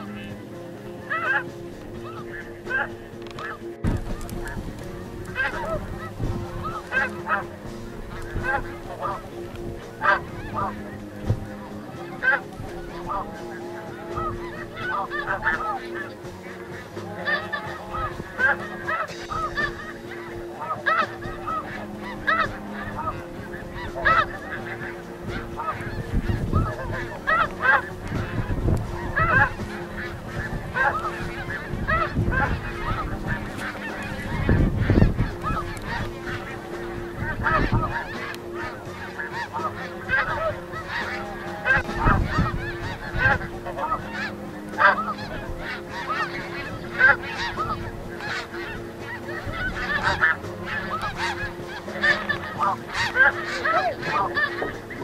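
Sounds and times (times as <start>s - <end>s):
wind buffeting microphone: 0.0s - 53.1s
snow geese honking: 0.0s - 55.0s.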